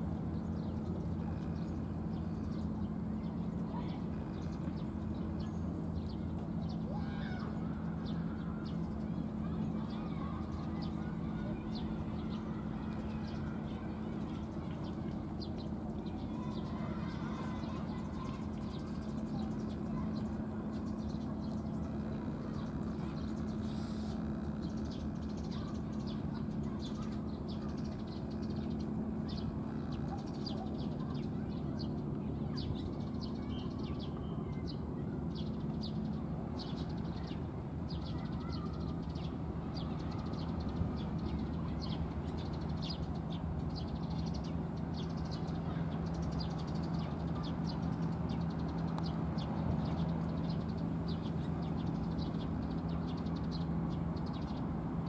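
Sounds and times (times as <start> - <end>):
steady low hum: 0.0 - 55.0
small birds chirping: 0.1 - 55.0.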